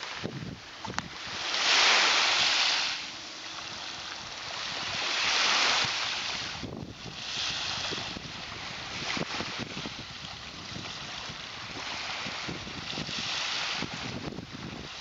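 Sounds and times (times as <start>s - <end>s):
waves washing onto sand: 0.0s - 15.0s.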